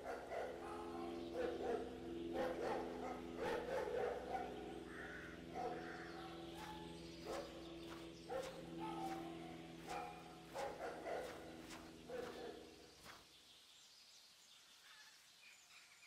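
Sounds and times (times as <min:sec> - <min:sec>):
steady low drone: 0:00.0 - 0:13.2.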